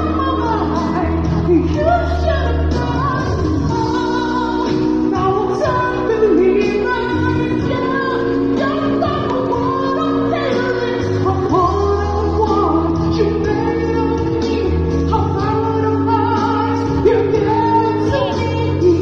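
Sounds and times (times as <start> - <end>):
backing music with held chords: 0.0 - 19.0
person singing: 0.0 - 19.0.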